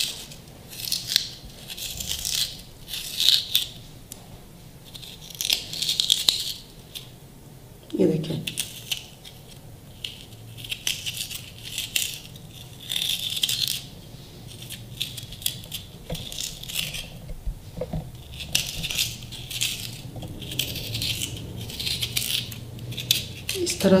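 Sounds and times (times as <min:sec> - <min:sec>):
knife scraping potato: 0:00.0 - 0:03.8, 0:04.8 - 0:07.1, 0:08.5 - 0:24.0.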